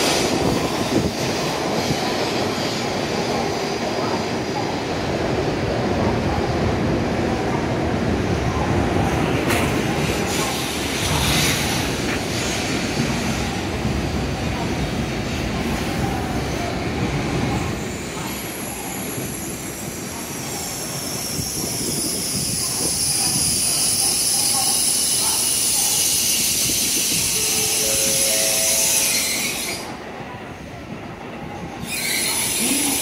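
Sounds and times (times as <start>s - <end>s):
train cars rumbling: 0.0s - 33.0s.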